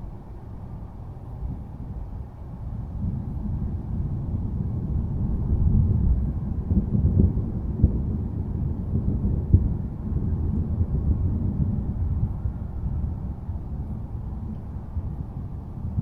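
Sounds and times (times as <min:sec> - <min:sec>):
rolling thunder rumble: 0:00.0 - 0:16.0
thunder crackles: 0:02.7 - 0:16.0.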